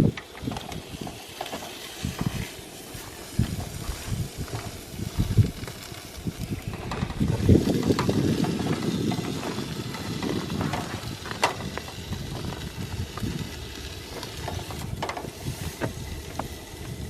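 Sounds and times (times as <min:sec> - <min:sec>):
fish sizzling in a pan: 0:00.2 - 0:17.0
low rumbling: 0:02.0 - 0:17.0.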